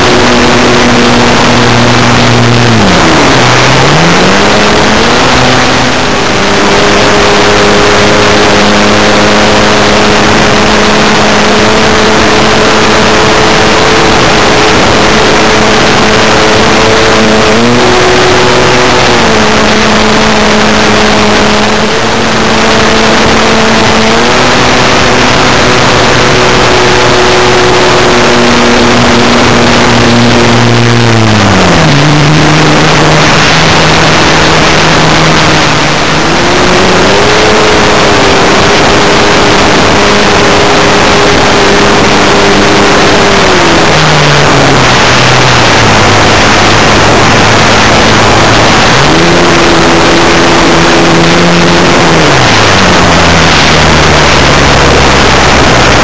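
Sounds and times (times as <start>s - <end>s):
model plane motor whining: 0.0s - 56.0s.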